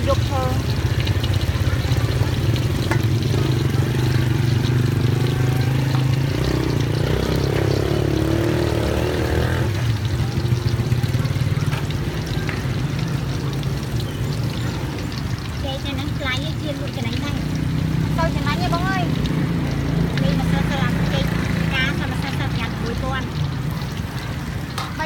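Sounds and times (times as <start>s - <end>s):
food frying in hot oil: 0.0s - 25.0s.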